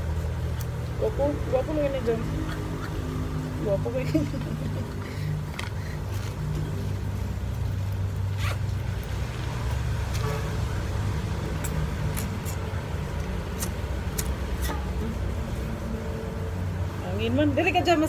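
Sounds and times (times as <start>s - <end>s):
low rumble of background traffic: 0.0s - 18.0s.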